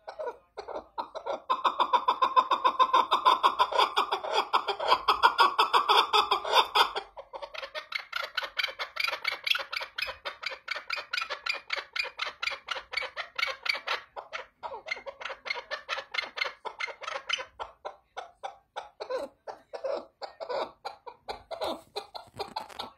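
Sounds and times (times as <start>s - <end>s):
partridge clucking: 0.0s - 22.9s.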